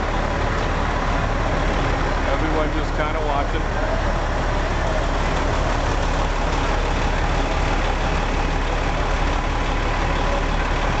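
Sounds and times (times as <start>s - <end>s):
fire truck engine idling: 0.0s - 11.0s.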